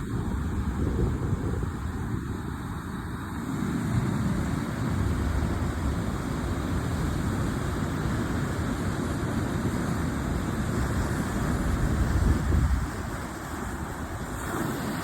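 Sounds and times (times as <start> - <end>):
sea waves washing on shore: 0.0 - 15.0
wind rumbling on microphone: 0.0 - 15.0.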